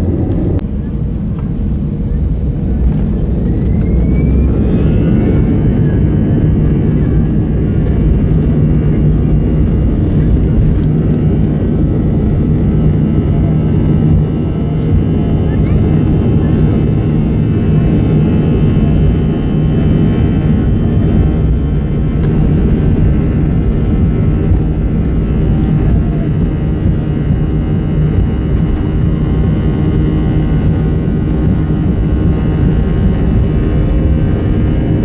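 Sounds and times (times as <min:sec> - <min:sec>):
airplane cabin drone: 0:00.0 - 0:35.0.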